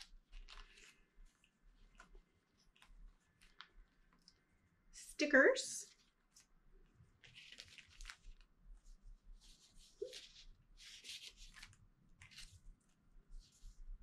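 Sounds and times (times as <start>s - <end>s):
sticker sheets rustling: 0.0s - 4.4s, 5.9s - 14.0s.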